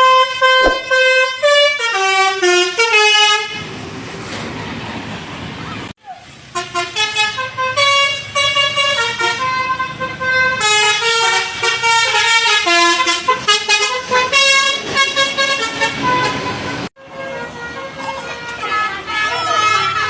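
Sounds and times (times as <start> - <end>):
bus horn playing a melody: 0.0 - 3.7, 6.5 - 20.0.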